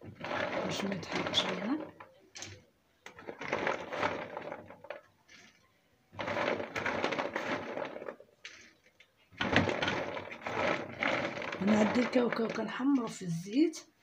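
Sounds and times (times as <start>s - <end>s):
peanuts clattering on metal tray: 0.0s - 13.8s.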